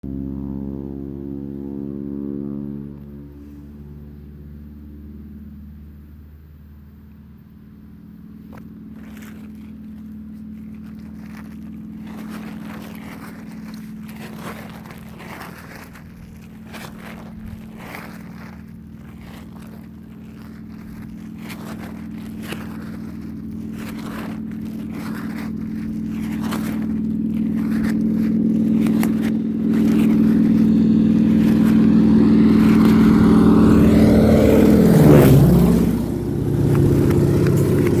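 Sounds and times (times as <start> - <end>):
propeller aircraft engine: 0.0 - 38.0.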